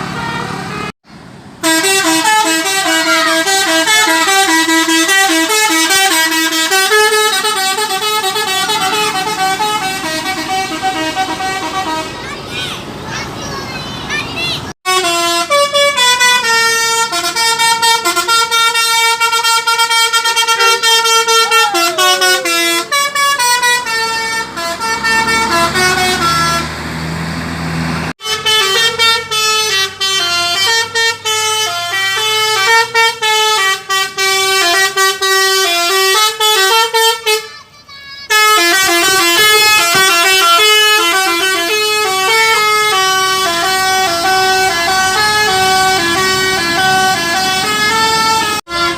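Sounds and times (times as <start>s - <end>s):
musical bus air horn tune: 0.0s - 1.0s, 1.6s - 12.2s, 14.8s - 26.8s, 28.2s - 48.9s.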